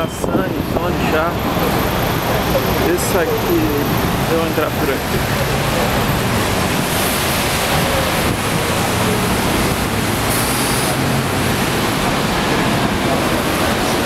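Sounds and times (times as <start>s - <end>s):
engine hum of passing vehicles: 0.0s - 14.0s
tyres hissing on wet road: 0.1s - 14.0s.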